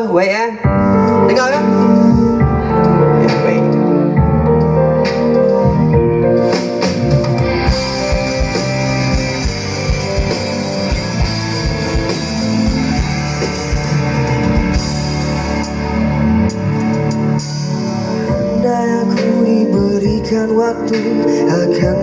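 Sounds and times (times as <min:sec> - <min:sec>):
live rock band playing: 0:00.7 - 0:22.0.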